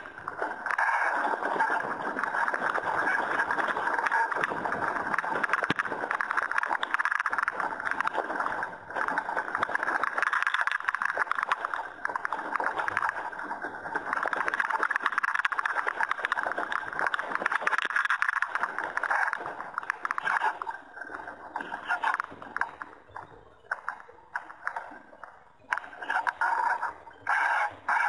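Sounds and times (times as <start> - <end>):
water rushing against hull: 0.0 - 28.0.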